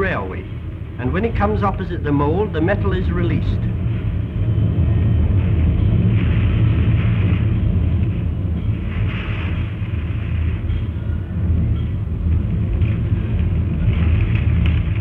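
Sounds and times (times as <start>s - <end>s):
old film soundtrack rumble and hiss: 0.0s - 15.0s.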